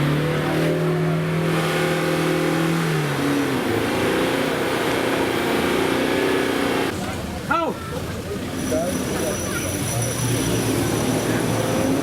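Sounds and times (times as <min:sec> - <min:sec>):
off-road vehicle engine under load: 0:00.0 - 0:12.0.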